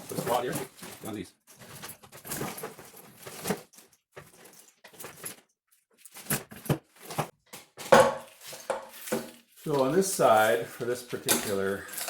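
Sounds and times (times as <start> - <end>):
wires and plastic connectors rustling: 0.0 - 12.0.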